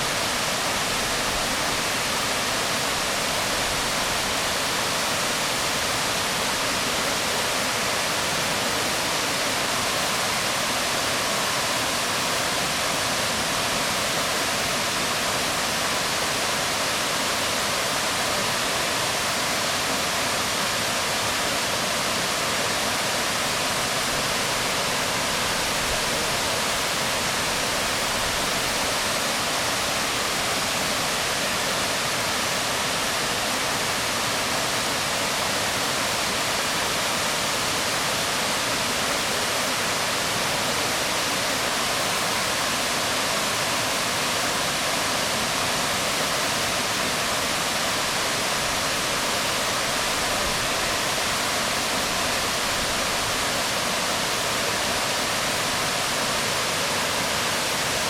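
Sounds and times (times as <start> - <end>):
waterfall onto rocks: 0.0 - 58.0.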